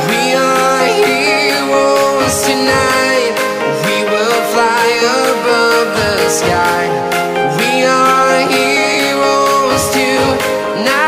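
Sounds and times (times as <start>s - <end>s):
pop song: 0.0s - 11.0s.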